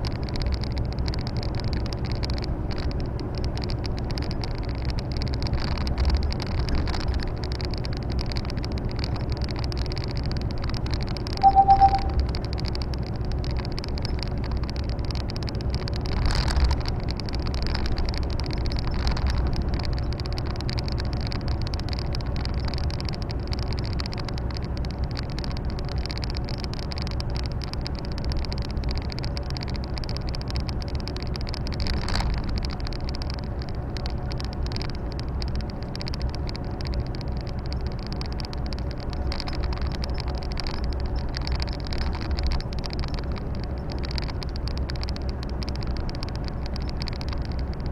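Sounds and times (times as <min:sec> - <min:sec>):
tyre and road noise: 0:00.0 - 0:11.4, 0:12.2 - 0:47.9.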